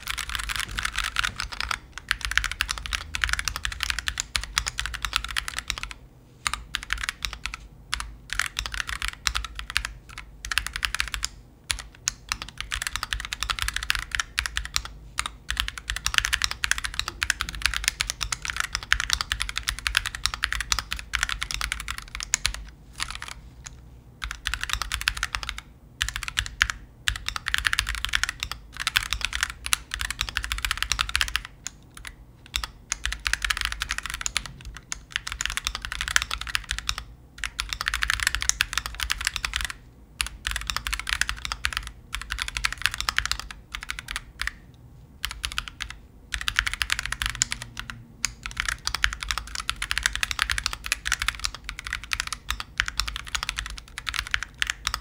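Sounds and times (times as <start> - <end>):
typing on mechanical keyboard: 0.0 - 44.6, 45.2 - 55.0.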